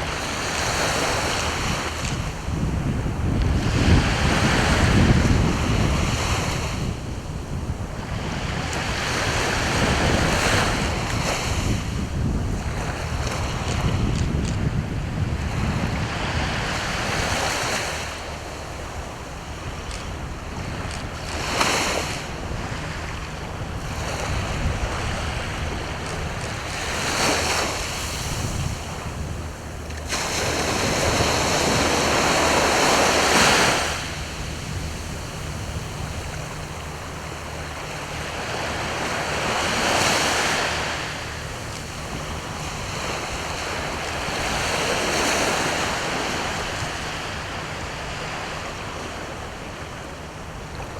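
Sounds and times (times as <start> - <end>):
sea waves breaking: 0.0 - 50.9.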